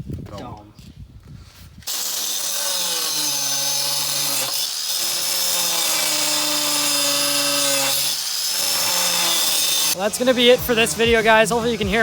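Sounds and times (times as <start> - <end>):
power tool cutting sheet metal: 1.8 - 12.0.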